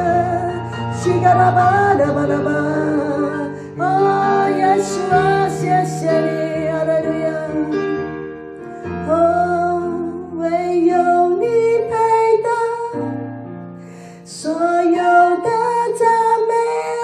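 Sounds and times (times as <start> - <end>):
woman singing into microphone: 0.0 - 8.0, 9.0 - 13.2, 14.3 - 17.0.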